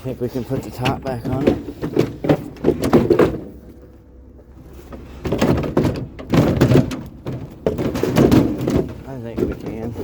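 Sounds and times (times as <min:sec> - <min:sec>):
heavy item clunking and knocking: 0:00.5 - 0:10.0.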